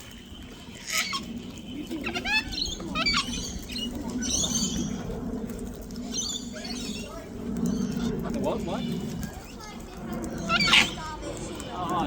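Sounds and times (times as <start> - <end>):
parrots chirping and screeching: 0.0 - 12.0.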